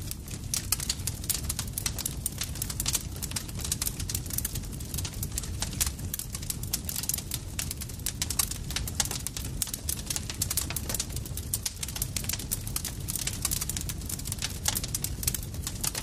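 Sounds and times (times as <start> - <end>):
campfire crackling: 0.0 - 16.0
low rumble of fire: 0.0 - 16.0.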